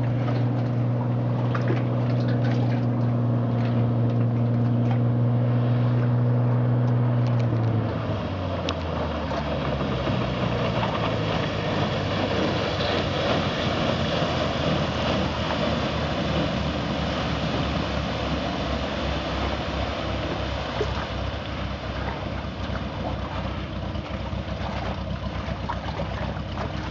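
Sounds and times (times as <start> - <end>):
airplane engine and propeller droning: 0.0 - 26.9
broad rushing noise: 0.0 - 26.9.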